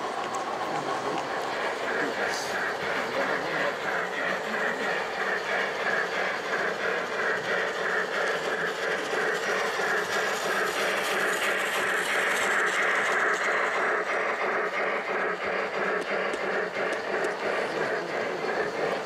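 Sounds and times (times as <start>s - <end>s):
model train clattering: 0.0s - 19.0s.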